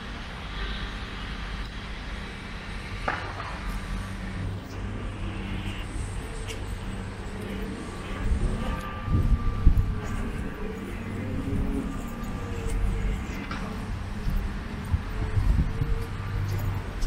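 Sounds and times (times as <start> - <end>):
city road traffic hum: 0.0 - 17.0.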